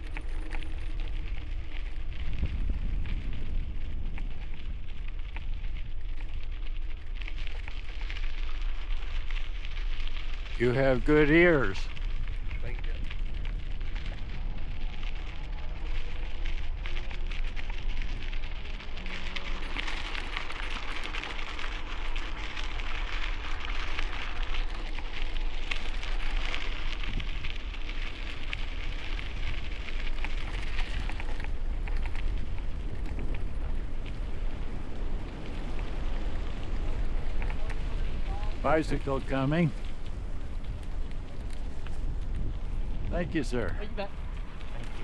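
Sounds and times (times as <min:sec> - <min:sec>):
bicycle tyres on dirt trail: 0:00.0 - 0:45.0
wind rumble on microphone: 0:00.0 - 0:45.0.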